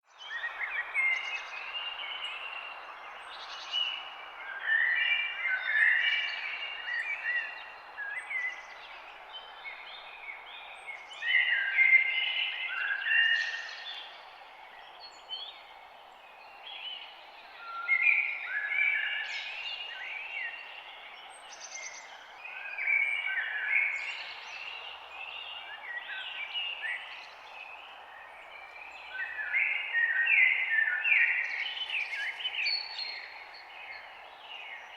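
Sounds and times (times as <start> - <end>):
songbirds chirping and singing: 0.2 - 34.9.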